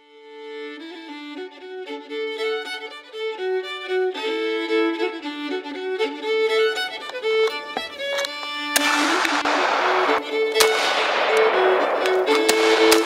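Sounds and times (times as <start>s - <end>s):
lively violin melody: 0.0s - 13.0s.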